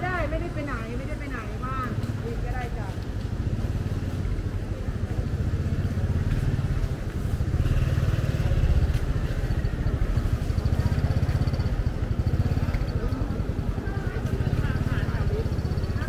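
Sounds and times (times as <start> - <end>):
motorcycle engine running: 1.7 - 16.0.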